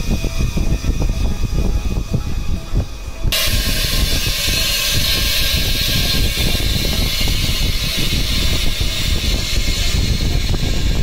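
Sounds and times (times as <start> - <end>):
compressed air hissing: 0.0 - 11.0
low rumble: 0.0 - 11.0.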